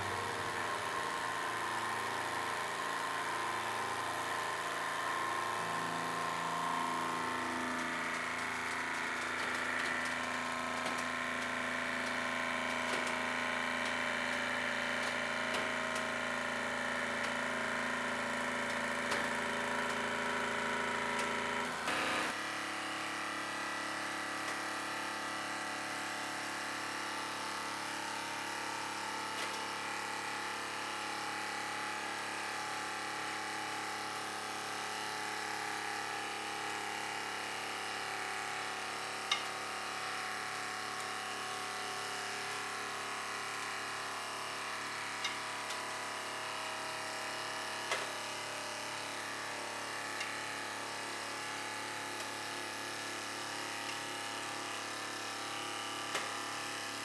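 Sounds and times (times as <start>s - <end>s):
hydraulic pump motor humming: 0.0s - 32.6s, 33.2s - 57.0s.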